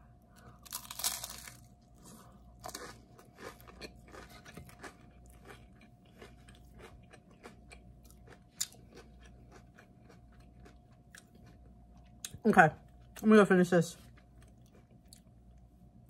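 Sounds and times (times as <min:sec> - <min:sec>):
chewing crisp flatbread: 0:00.4 - 0:13.2, 0:14.0 - 0:15.8.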